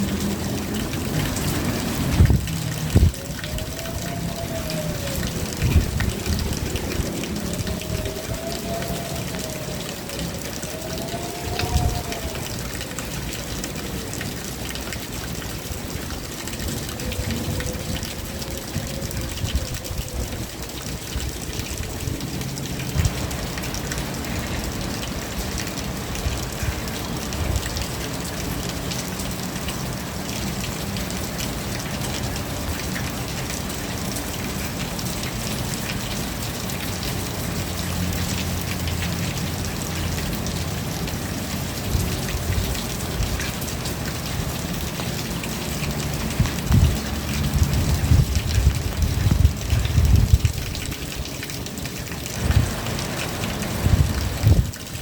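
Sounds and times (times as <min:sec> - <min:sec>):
close drips and splashes: 0:00.0 - 0:55.0
steady rain falling: 0:00.0 - 0:55.0.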